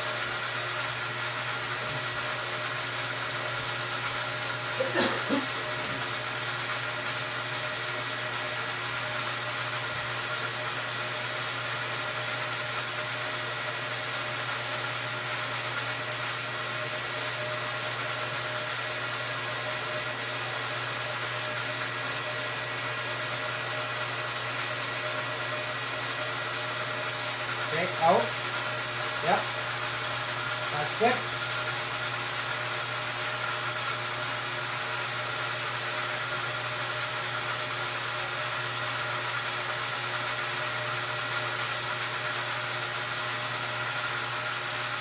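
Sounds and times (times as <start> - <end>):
metal lathe humming and whining: 0.0 - 45.0.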